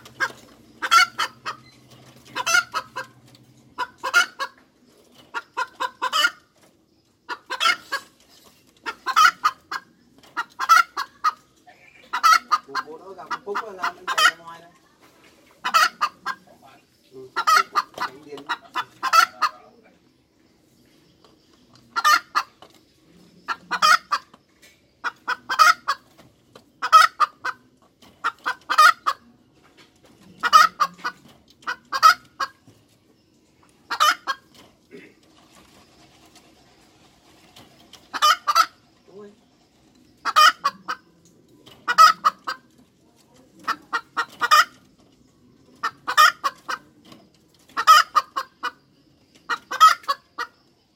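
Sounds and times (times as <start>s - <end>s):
hen clucking: 0.0s - 50.9s.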